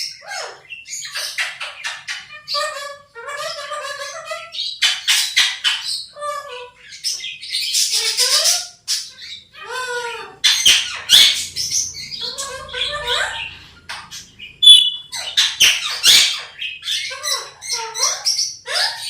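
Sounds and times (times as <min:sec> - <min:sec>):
parrot squawking and chattering: 0:00.0 - 0:19.0.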